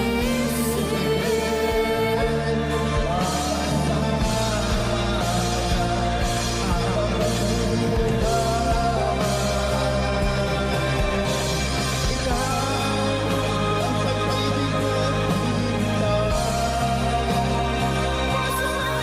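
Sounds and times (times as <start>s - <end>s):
pop ballad with singing: 0.0s - 19.0s.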